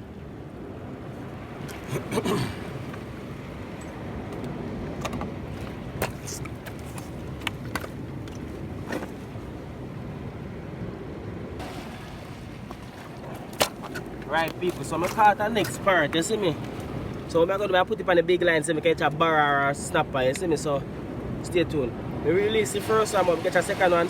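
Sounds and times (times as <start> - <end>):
sea rumble: 0.0 - 24.0.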